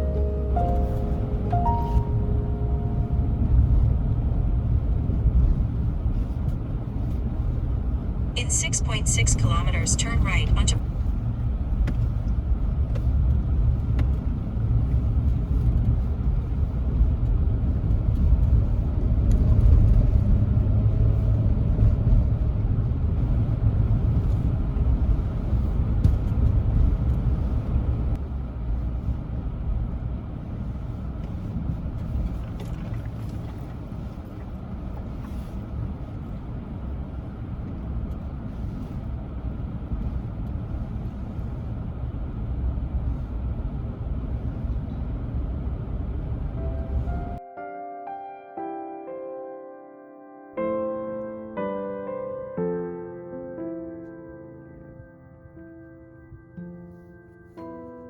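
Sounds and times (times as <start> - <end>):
road and engine rumble in van: 0.0 - 47.4.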